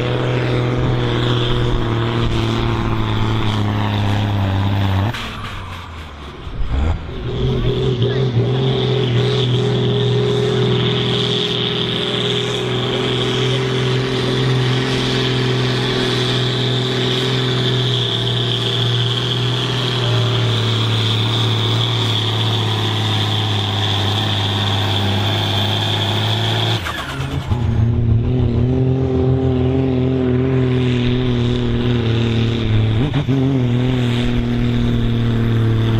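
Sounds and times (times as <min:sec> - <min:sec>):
high turbo whine: 0:00.0 - 0:35.9
tractor diesel engine under load: 0:00.0 - 0:35.9.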